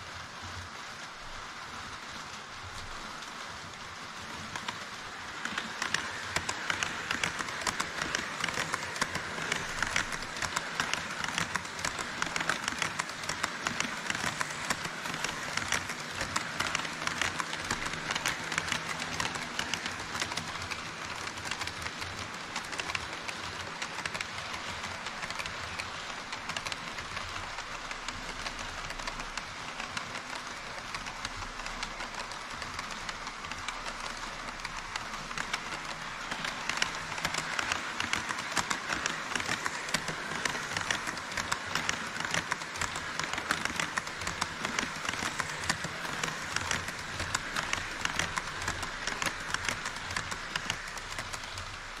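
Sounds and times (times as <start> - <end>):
model train motors whirring: 0.0 - 52.0
rapid clicking of model train: 0.0 - 52.0.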